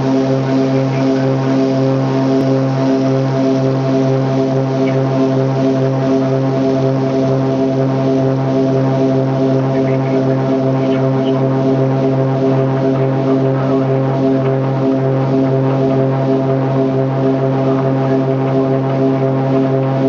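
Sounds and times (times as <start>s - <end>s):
pulsing aircraft engine drone: 0.0s - 20.0s.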